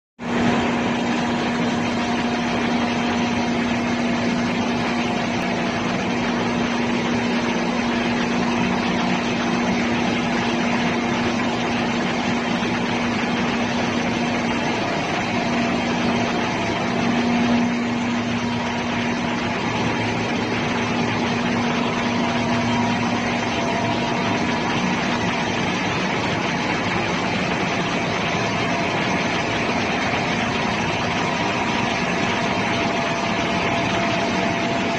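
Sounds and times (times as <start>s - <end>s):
engine room machinery hum: 0.2s - 34.9s.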